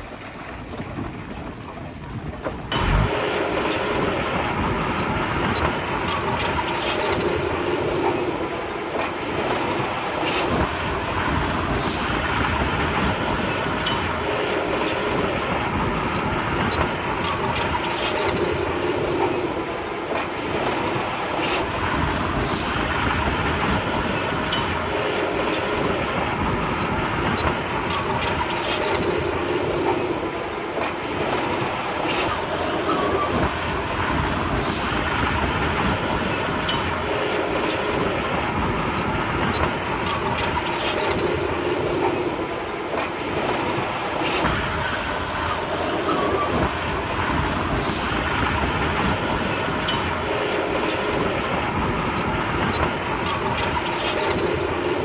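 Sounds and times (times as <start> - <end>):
metallic clanks of tracks: 0.7 - 55.0
bulldozer diesel engine working: 2.6 - 55.0.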